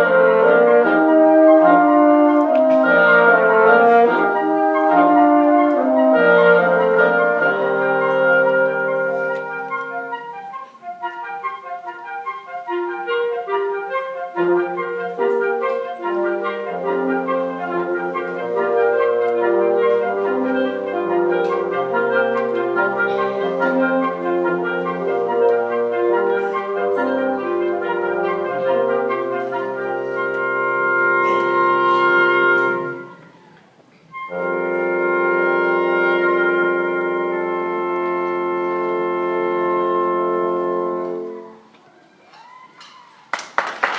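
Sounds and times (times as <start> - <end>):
wind ensemble playing: 0.0 - 41.8
clarinet: 0.0 - 43.9.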